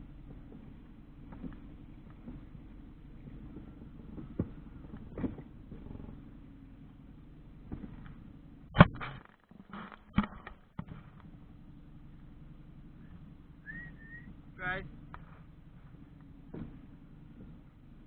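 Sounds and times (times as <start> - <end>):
outboard motor humming: 0.0 - 9.0, 9.8 - 18.0.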